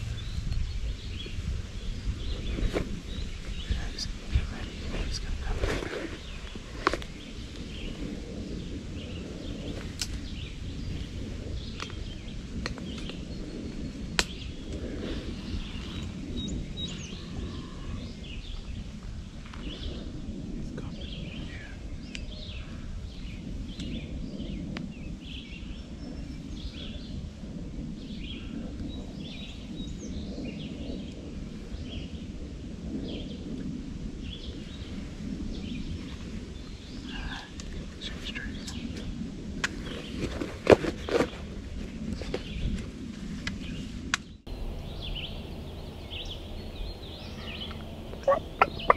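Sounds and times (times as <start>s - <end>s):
songbirds chirping: 0.0s - 48.9s
steady low rumble: 0.0s - 48.9s.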